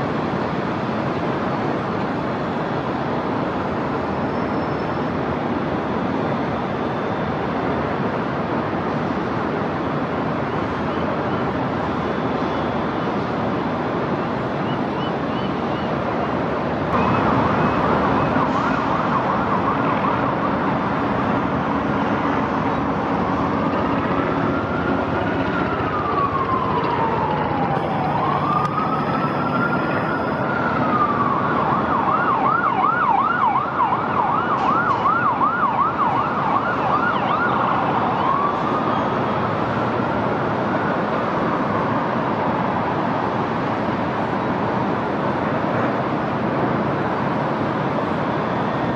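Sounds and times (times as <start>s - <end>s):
city noise: 0.0s - 48.9s
emergency siren wailing and yelping: 3.8s - 48.9s.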